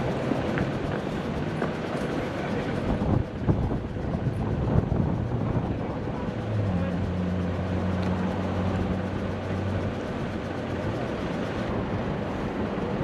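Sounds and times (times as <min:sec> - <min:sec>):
traffic: 0:00.0 - 0:13.0
vehicle engine humming: 0:00.0 - 0:13.0.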